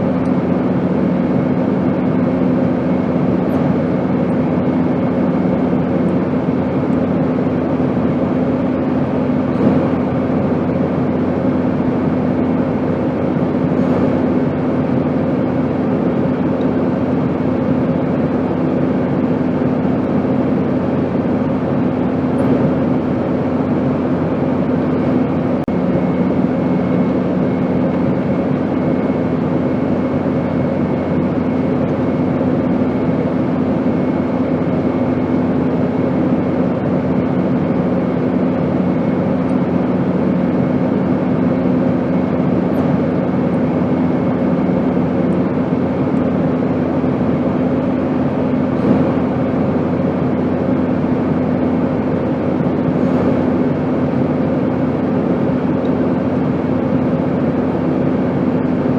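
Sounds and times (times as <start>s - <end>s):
airplane drone: 0.0s - 58.9s.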